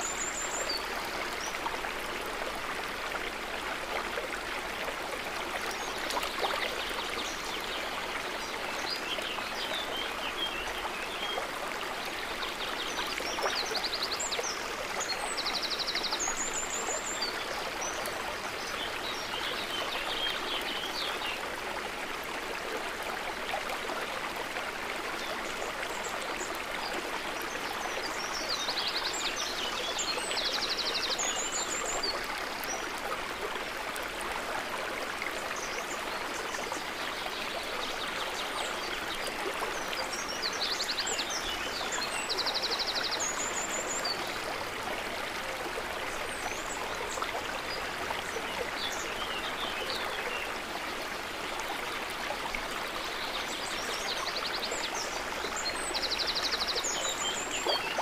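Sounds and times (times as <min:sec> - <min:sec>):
water trickling and babbling: 0:00.0 - 0:58.0.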